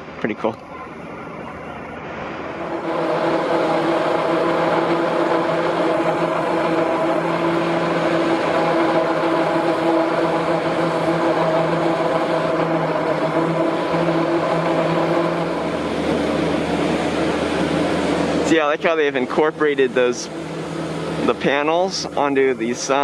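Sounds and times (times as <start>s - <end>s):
machine hum with constant tones: 0.0s - 23.0s.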